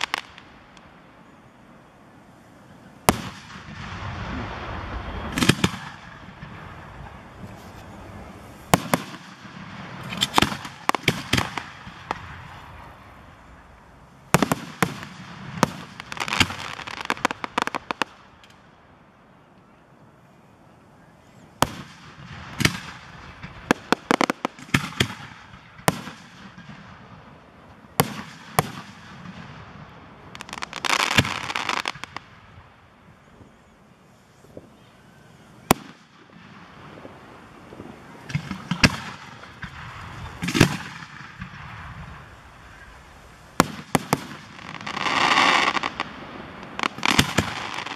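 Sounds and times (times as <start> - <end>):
fireworks bursting: 0.0 - 19.8, 21.3 - 47.9.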